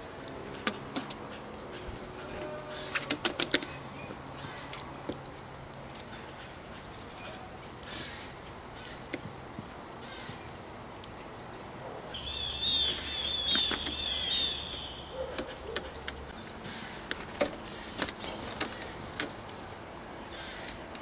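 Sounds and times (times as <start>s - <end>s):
songbird chirping: 0.0s - 21.0s.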